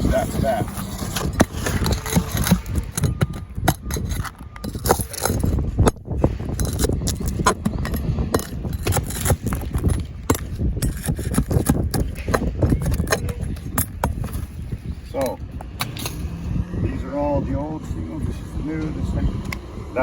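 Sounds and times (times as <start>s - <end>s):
pry bar scraping shingles: 0.0s - 16.1s.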